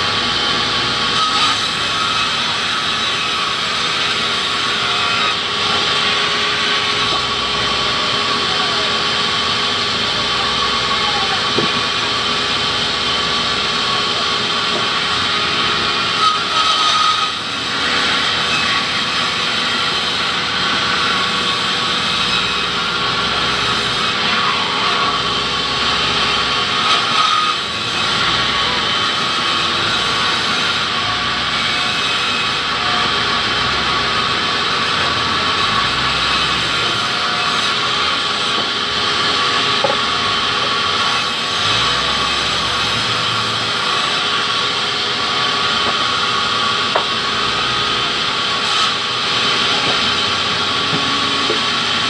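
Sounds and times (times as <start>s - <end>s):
band saw cutting log: 0.0s - 52.0s.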